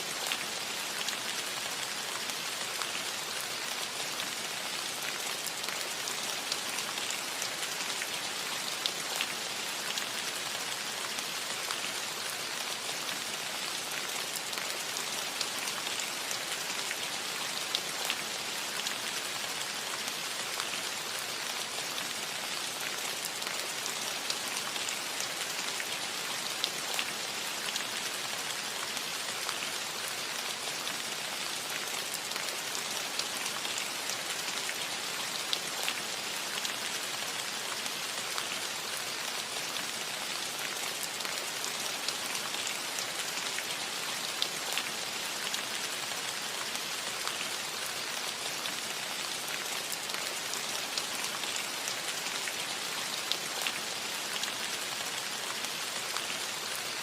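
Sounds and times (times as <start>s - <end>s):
rain on a roof: 0.0s - 57.0s.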